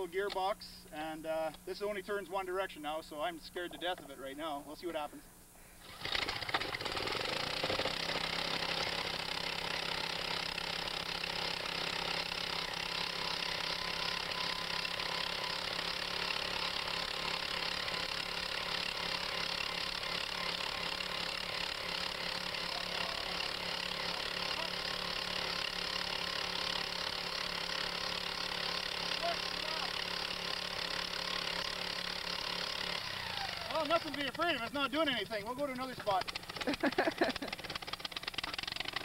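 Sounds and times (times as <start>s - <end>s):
post-hole auger engine running: 5.8s - 39.0s.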